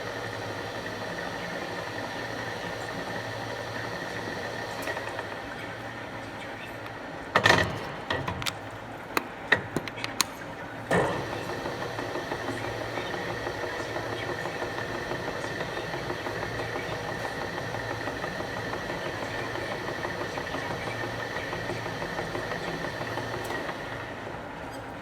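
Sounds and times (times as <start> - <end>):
milling machine whine: 0.0 - 25.0.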